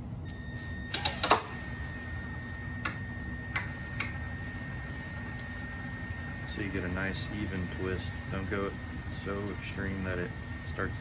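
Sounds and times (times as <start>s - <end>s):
cordless drill whine: 0.3s - 11.0s.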